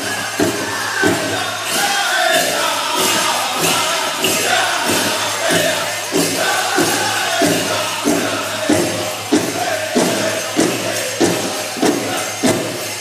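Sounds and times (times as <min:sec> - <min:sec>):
big drum beating: 0:00.0 - 0:13.0
high voices singing: 0:00.0 - 0:13.0.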